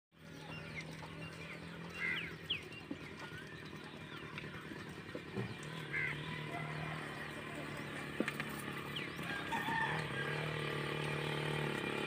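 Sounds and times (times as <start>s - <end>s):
bird chirps: 0.2s - 10.5s.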